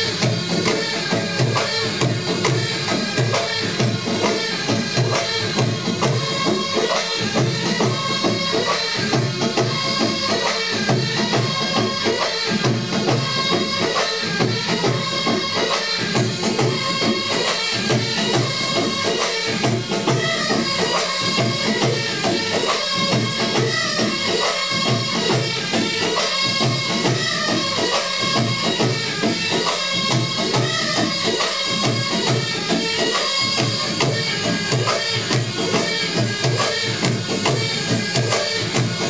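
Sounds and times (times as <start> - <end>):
hand drums: 0.0 - 39.0.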